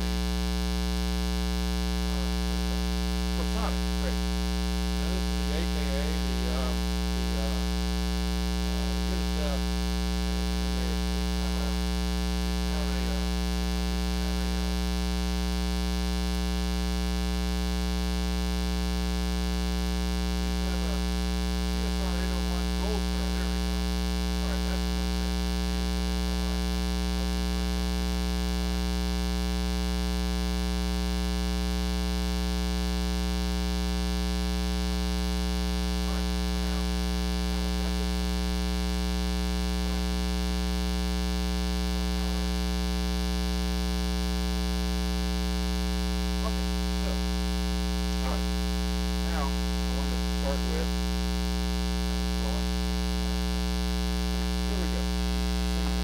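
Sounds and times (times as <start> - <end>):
mains hum: 0.0 - 56.0.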